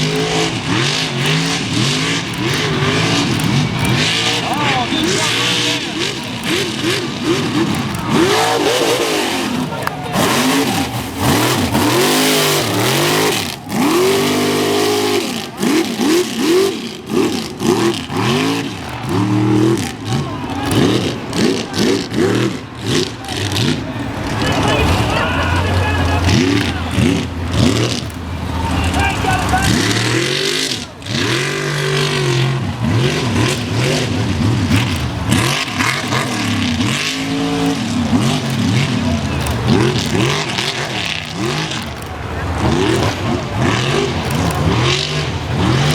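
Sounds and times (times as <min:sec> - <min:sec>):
truck engine revving hard: 0:00.0 - 0:45.9.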